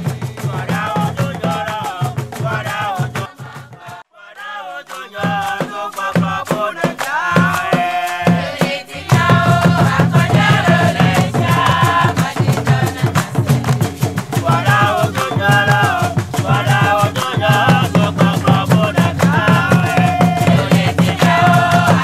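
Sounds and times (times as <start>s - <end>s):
quick percussion clicks: 0.0s - 4.0s, 4.8s - 22.0s
person singing: 0.0s - 22.0s.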